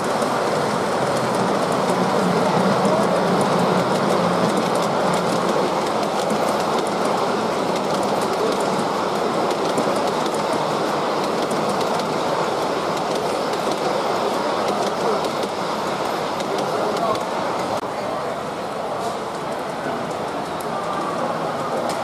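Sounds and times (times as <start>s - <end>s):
wheels clicking over rail joints: 0.0s - 17.8s
model train cars rolling: 0.0s - 22.0s.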